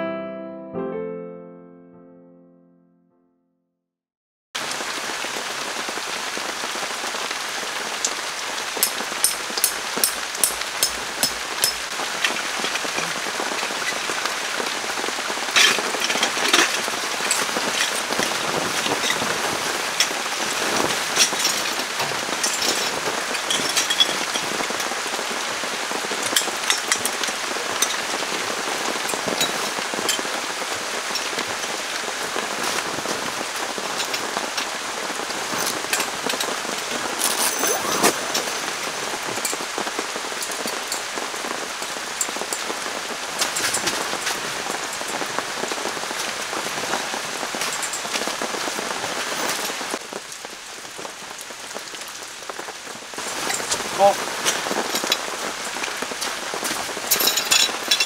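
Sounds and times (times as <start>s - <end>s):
rain falling: 4.6s - 58.0s
raindrops ticking on surfaces: 4.6s - 58.0s.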